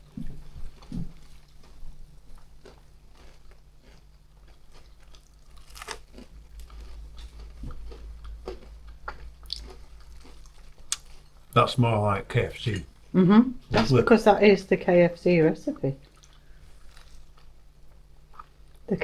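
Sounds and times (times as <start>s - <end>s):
chewing crispy fried chicken: 0.0s - 12.8s, 16.0s - 19.0s.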